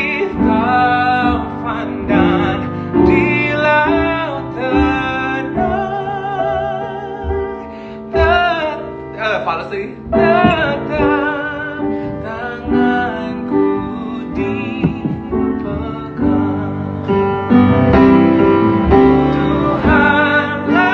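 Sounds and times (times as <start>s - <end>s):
instrumental backing music: 0.0s - 20.9s
man singing with vibrato: 0.0s - 20.9s.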